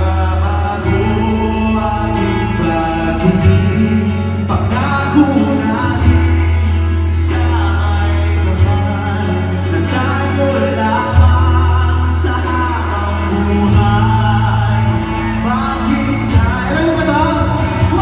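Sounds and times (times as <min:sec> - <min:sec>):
amplified music: 0:00.0 - 0:18.0
man singing into a microphone: 0:00.0 - 0:18.0
steady bass line: 0:00.0 - 0:18.0.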